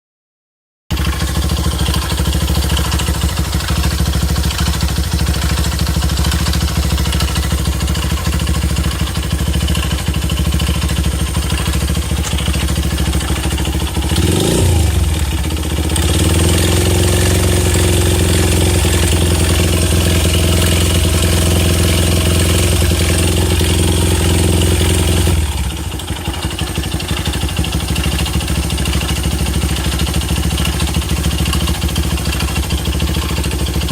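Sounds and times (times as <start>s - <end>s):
small engine idling and revving: 0.9s - 33.9s.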